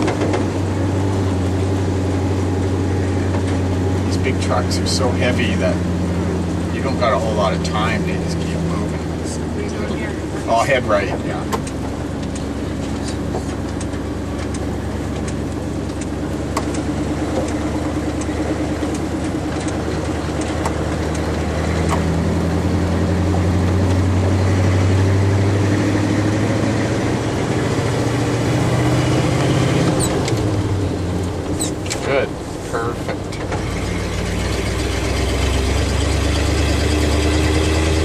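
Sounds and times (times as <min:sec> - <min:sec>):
truck engine running: 0:00.0 - 0:38.0.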